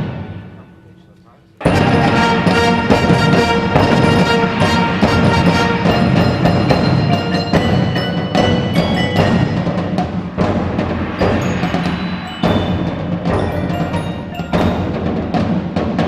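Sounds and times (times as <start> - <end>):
sharp percussion strikes: 0.0 - 16.0
wind ensemble tones: 0.9 - 16.0.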